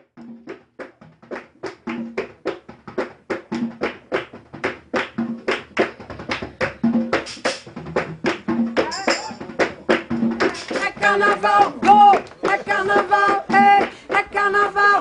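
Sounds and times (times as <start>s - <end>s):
drums beating quick rhythm: 0.0s - 15.0s.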